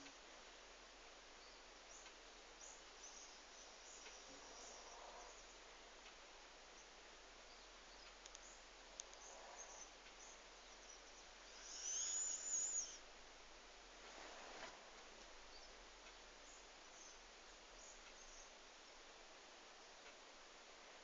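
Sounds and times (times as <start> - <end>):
faint ticks: 0.0 - 0.3, 1.0 - 13.1, 14.0 - 21.0
faint steady hiss: 0.0 - 21.0.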